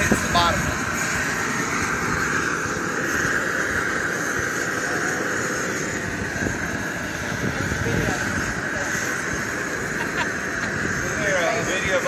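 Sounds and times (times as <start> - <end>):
gas burner rushing hiss: 0.0 - 12.0.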